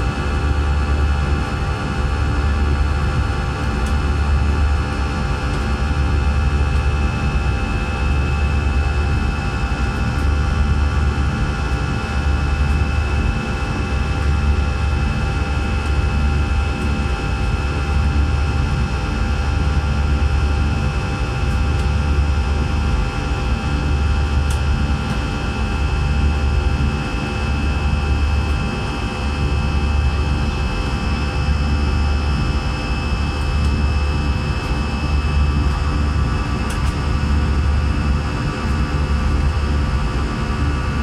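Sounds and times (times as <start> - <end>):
jet engine rumble: 0.0 - 41.0.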